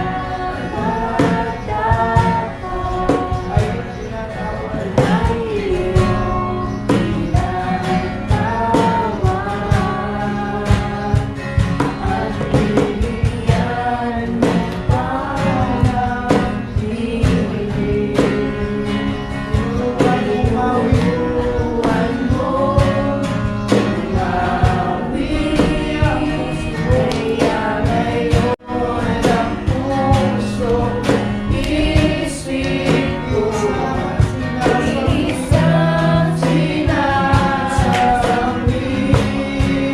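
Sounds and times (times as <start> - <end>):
instrumental backing with beat: 0.0 - 39.9
voices singing together: 0.0 - 39.9.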